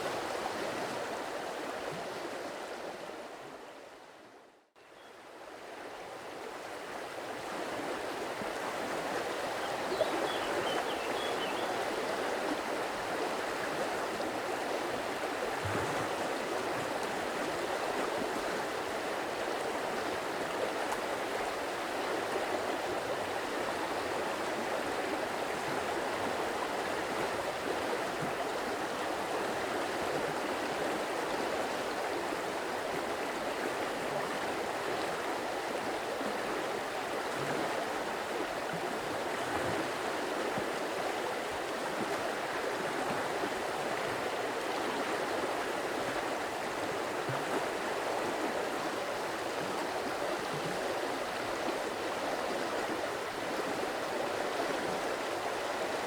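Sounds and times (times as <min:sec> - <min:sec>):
stream flowing: 0:00.0 - 0:04.4, 0:05.2 - 0:56.0.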